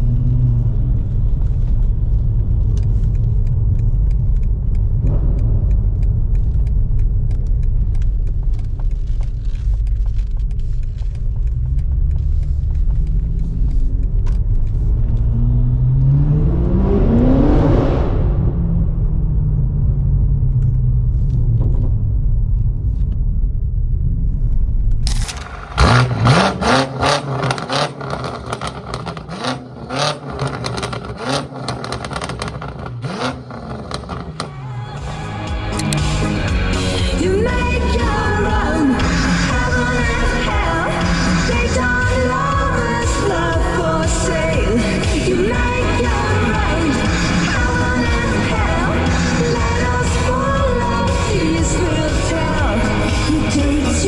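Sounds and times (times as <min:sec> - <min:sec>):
car engine rumbling: 0:00.0 - 0:54.0
exhaust crackling over rising revs: 0:00.0 - 0:54.0.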